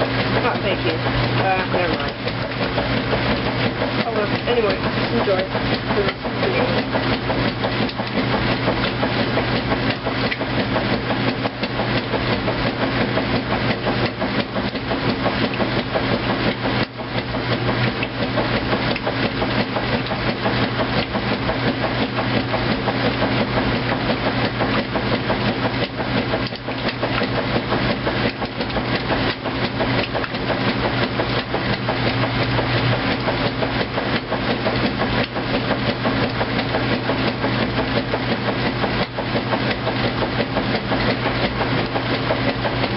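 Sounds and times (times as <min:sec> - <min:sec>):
washing machine motor hum: 0:00.0 - 0:42.9.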